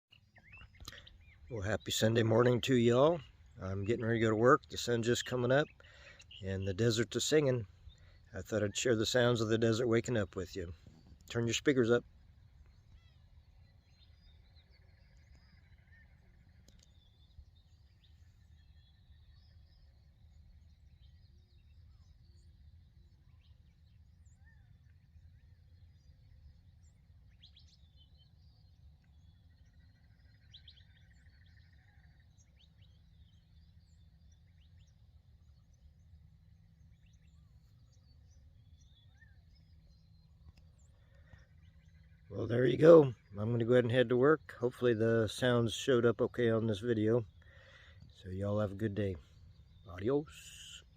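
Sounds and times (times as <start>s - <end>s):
birds chirping and whistling: 0.1s - 50.9s
steady low hum: 0.1s - 50.9s
low background rumble: 0.4s - 50.9s.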